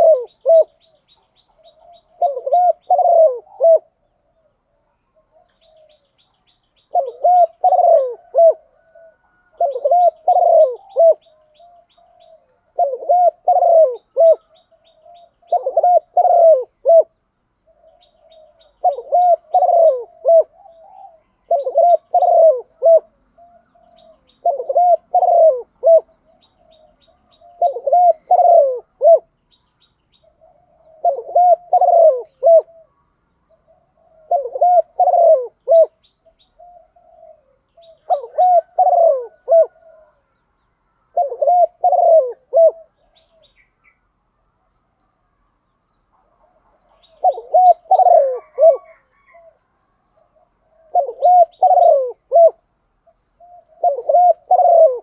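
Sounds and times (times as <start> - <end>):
dove cooing: 0.0 - 29.4, 30.1 - 44.0, 46.2 - 55.0.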